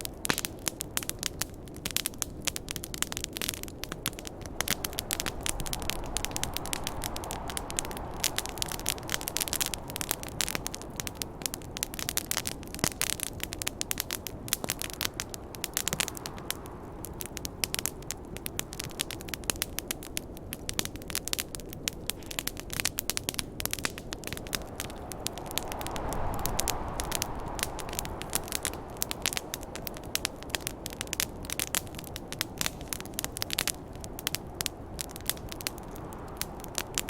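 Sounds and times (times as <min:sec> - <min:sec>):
campfire crackling and popping: 0:00.0 - 0:37.0
snowstorm wind rushing: 0:03.5 - 0:19.2, 0:22.1 - 0:37.0.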